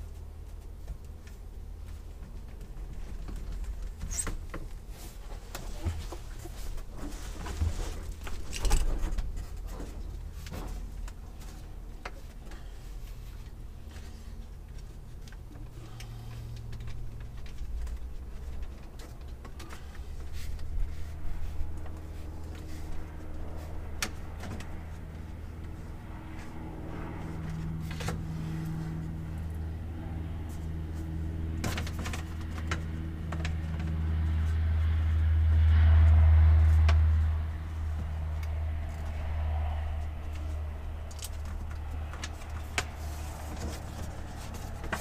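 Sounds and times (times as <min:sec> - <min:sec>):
low engine drone: 0:00.0 - 0:45.0.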